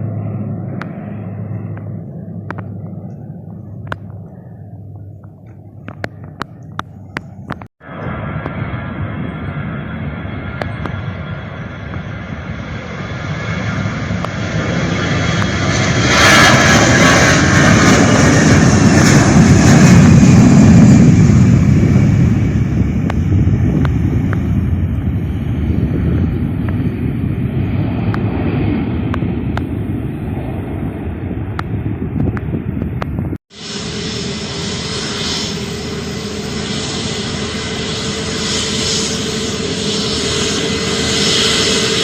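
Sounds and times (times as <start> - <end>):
airliner engines passing: 0.0 - 42.0.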